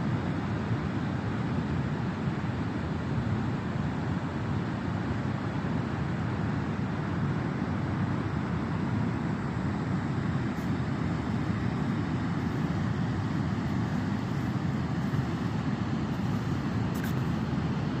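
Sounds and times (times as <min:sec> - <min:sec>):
wind: 0:00.0 - 0:18.0.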